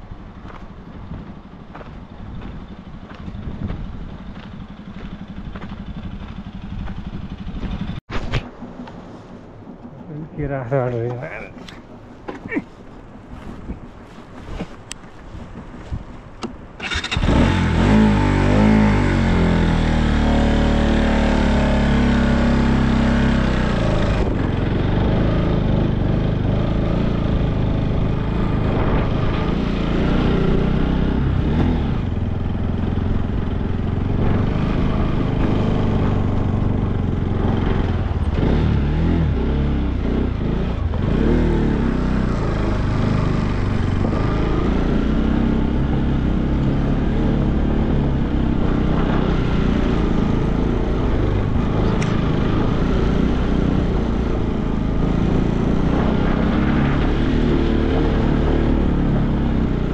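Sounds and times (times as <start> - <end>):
motorcycle engine: 0.0 - 10.2, 15.8 - 59.9.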